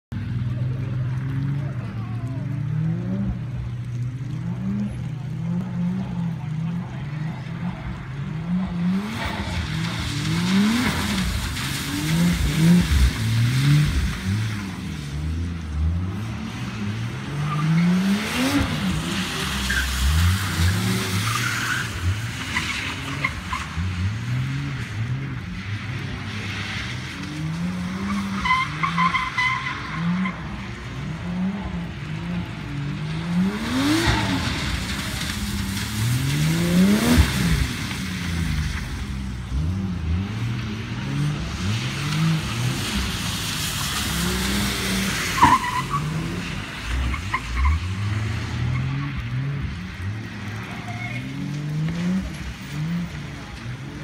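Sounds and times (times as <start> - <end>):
car engine revving: 0.4 - 54.0.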